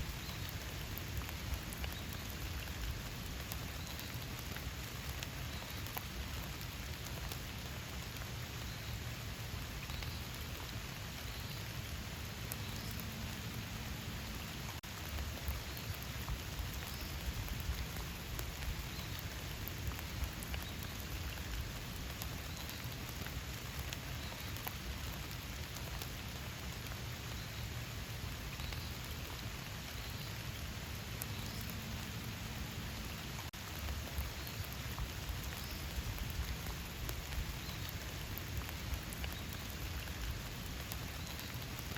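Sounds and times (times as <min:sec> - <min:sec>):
raindrop hits ticking: 0:00.0 - 0:08.6, 0:09.7 - 0:27.5, 0:30.6 - 0:41.9
steady rain falling: 0:00.0 - 0:41.9.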